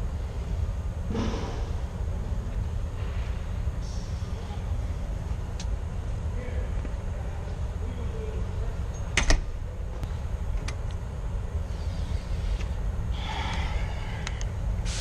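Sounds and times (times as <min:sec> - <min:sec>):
road and engine rumble in cabin: 0:00.0 - 0:15.0.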